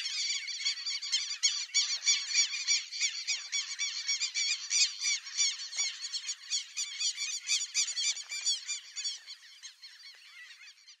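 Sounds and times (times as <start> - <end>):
flock of birds calling: 0.0 - 11.0.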